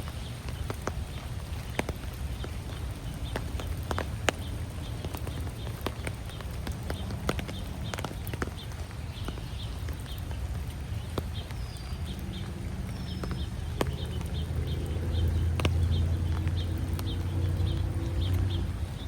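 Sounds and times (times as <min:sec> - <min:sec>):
footsteps on wet path: 0:00.0 - 0:19.0.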